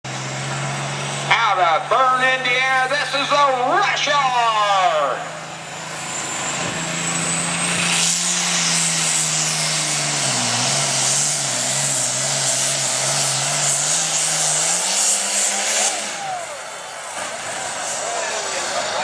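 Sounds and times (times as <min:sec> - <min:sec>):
diesel engine at full throttle: 0:00.0 - 0:19.0.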